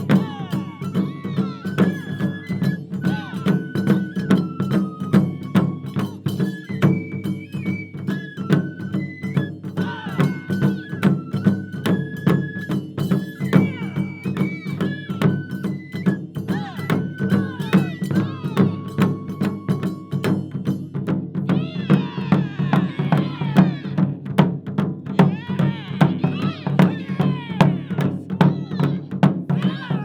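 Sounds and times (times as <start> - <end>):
bamboo flute melody: 0.0 - 24.4, 25.0 - 30.0
taiko drumming: 0.0 - 30.0.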